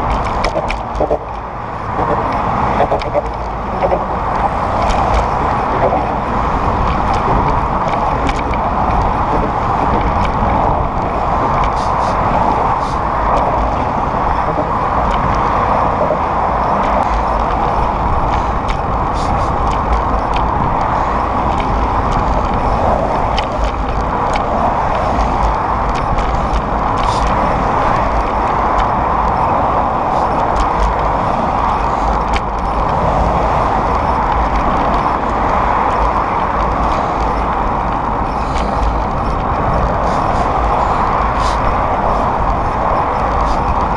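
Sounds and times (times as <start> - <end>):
car traffic roar: 0.0 - 43.9
wind rumble on microphone: 0.0 - 43.9.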